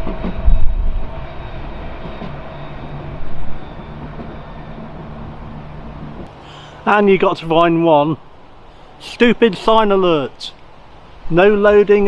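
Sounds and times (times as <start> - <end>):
electric tram passing: 0.0 - 12.0.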